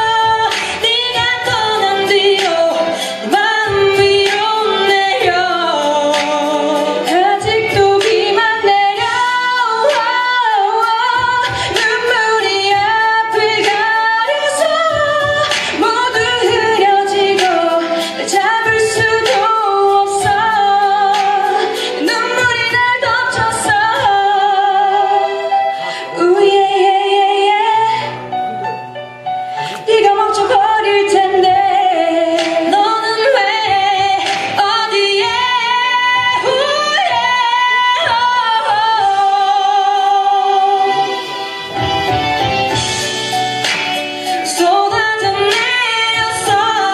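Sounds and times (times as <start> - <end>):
women singing pop ballad duet: 0.0 - 28.6, 29.5 - 46.9
backing track with steady beat: 0.0 - 46.9.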